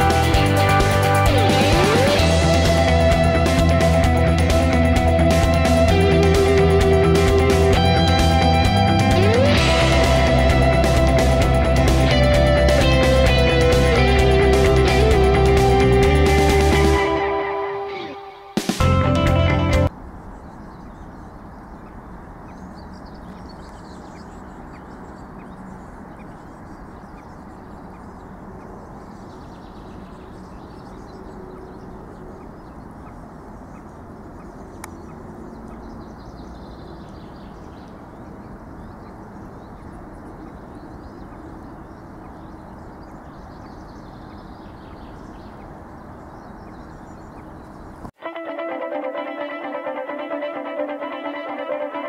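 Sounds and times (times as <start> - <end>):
faint birdsong: 0.0 - 48.2.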